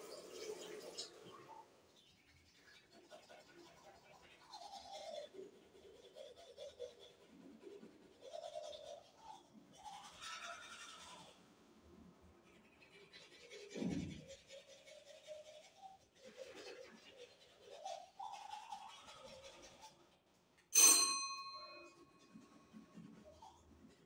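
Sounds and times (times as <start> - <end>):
toothbrush scrubbing teeth: 0.0 - 20.7, 21.9 - 24.0.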